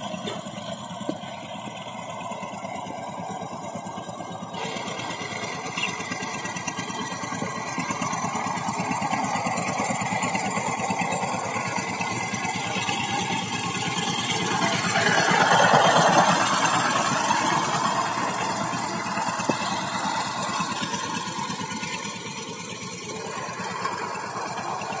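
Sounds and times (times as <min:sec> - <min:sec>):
diesel tiller engine running: 0:00.0 - 0:25.0.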